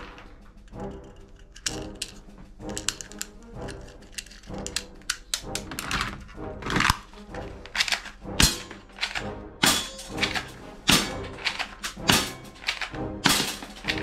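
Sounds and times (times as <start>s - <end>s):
background music: 0.0s - 14.0s
plastic toy guns clattering: 1.4s - 14.0s.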